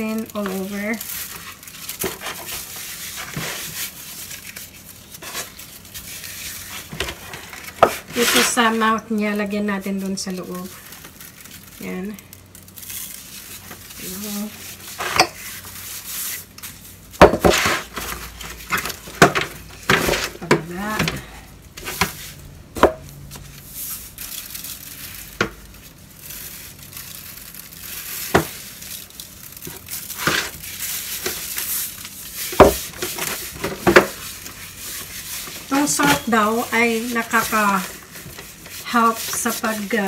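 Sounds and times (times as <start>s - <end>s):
foil pan crinkling and knocking: 0.0s - 40.0s.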